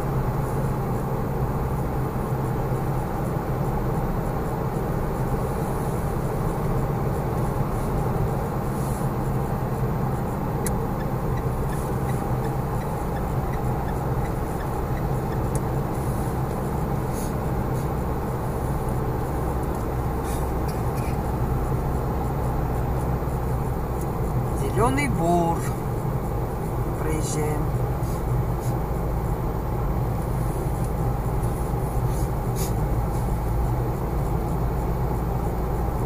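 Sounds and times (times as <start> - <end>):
car cabin road noise: 0.0 - 36.0.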